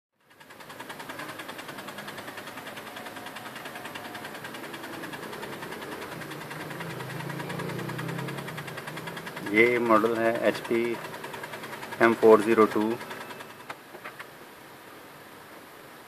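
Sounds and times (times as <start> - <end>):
laser printer running: 0.2 - 13.9
fast clicking from printer gears: 0.2 - 14.4.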